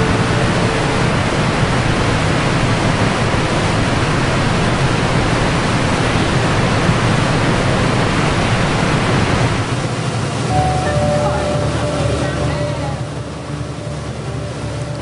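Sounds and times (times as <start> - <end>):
boat wake rushing: 0.0 - 15.0
low drone: 0.0 - 15.0.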